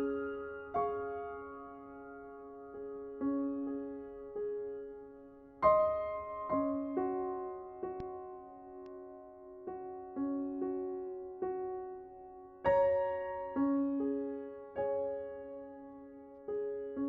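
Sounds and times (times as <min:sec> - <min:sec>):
slow solo piano music: 0:00.0 - 0:17.0.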